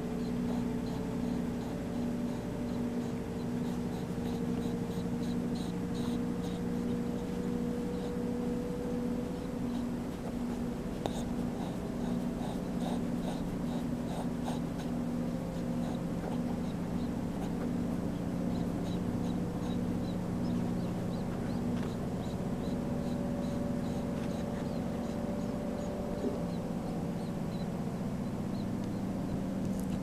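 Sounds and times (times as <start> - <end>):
pet breathing heavily: 0.0 - 30.0
steady low hum: 0.0 - 30.0.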